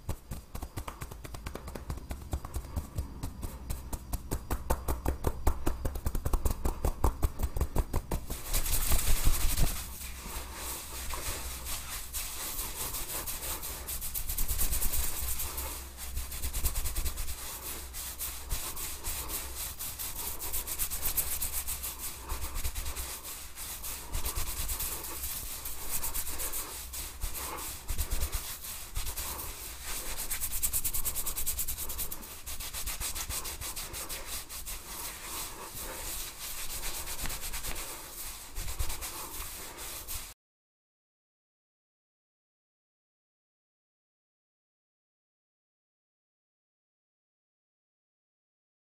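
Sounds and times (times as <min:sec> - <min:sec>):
fingers rubbing through hair: 0:00.0 - 0:40.4.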